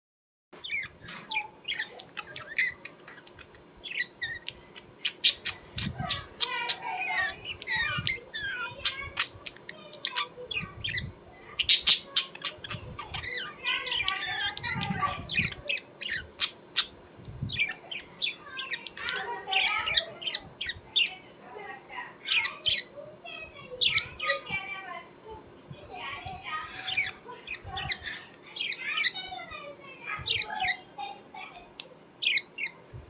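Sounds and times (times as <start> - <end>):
birds squawking and chirping: 0.6 - 33.0.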